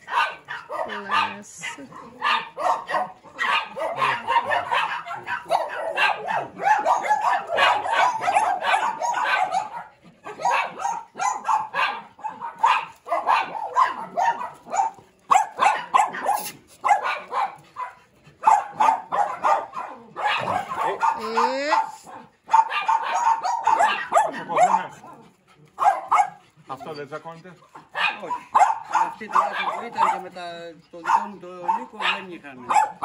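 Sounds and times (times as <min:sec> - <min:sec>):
small dogs barking: 0:00.0 - 0:33.0.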